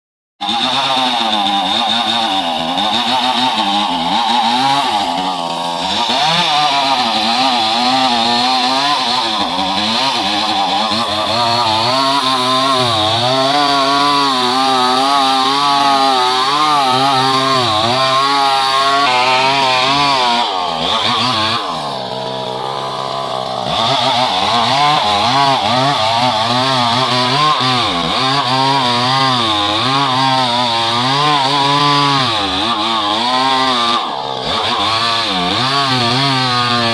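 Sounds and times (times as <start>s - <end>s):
chainsaw cutting wood: 0.4s - 36.9s.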